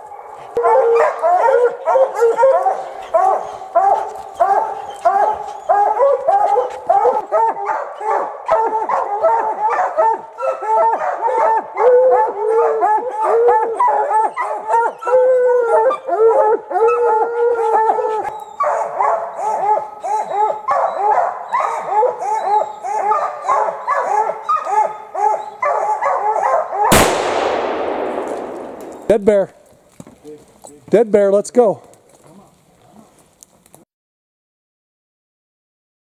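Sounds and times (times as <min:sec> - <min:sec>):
hounds barking and baying: 0:00.0 - 0:29.0.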